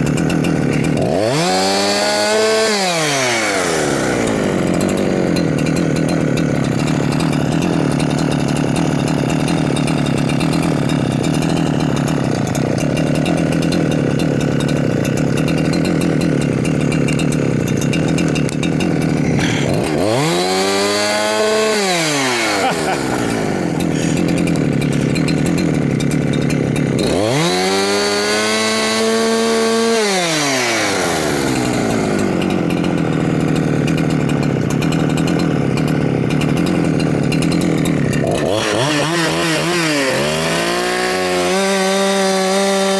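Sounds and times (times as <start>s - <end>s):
chainsaw idling and revving: 0.0s - 42.9s.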